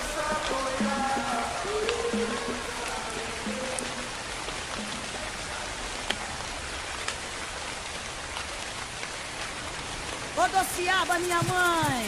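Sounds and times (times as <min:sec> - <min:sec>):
raindrop ticks: 0:00.0 - 0:12.0
steady rain hiss: 0:00.0 - 0:12.0.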